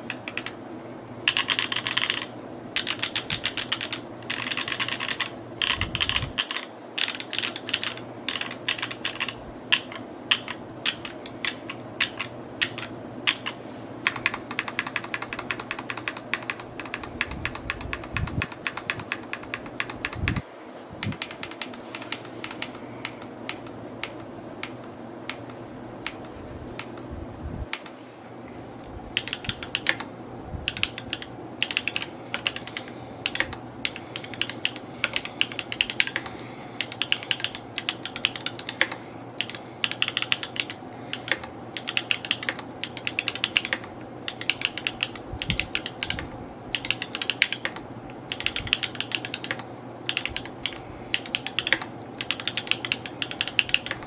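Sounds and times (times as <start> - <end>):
mechanical keyboard typing: 0.0 - 0.6, 1.2 - 20.4, 21.0 - 27.0, 27.7 - 28.0, 29.2 - 54.0.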